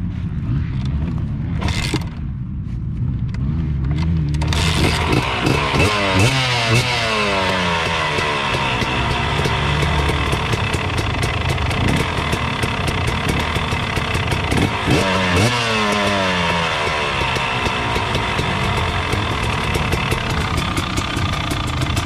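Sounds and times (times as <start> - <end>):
dirt bike engine revving: 3.3 - 22.0.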